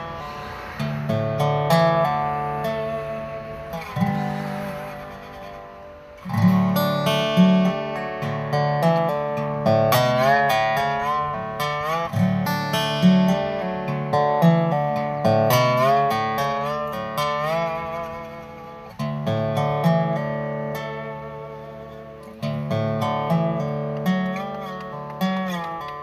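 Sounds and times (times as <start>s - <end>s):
slide resonator guitar melody: 0.0s - 26.0s.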